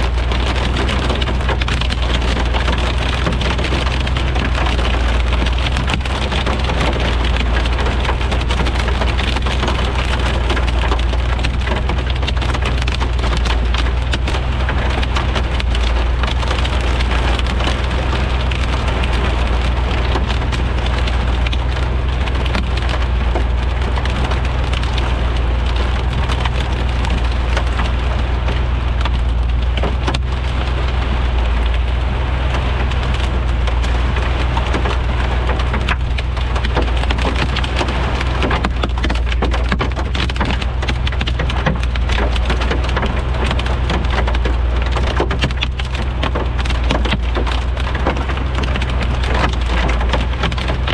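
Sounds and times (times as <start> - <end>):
constant low rumble: 0.0 - 50.9
heavy rain pelting down: 0.0 - 50.9.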